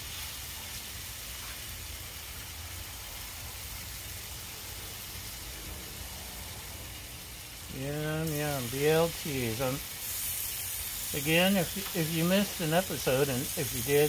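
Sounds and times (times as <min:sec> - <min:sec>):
bacon sizzling on a griddle: 0:00.0 - 0:14.0.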